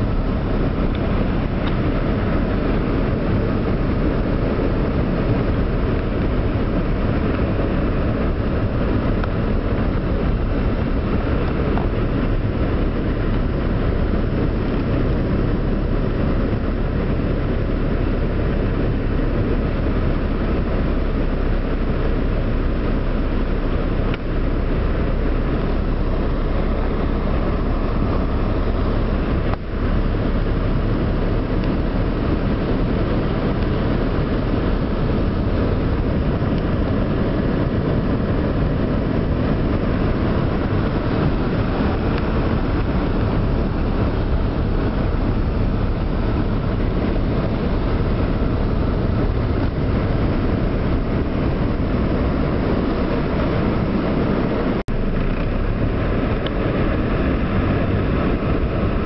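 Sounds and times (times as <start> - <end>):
car engine rumble: 0.0 - 59.0
heavy rain on a car: 0.0 - 59.0
tyres on wet road: 0.0 - 59.0.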